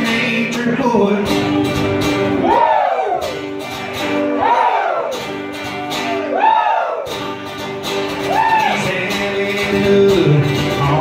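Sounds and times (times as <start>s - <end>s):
acoustic guitars strumming chords: 0.0s - 11.0s.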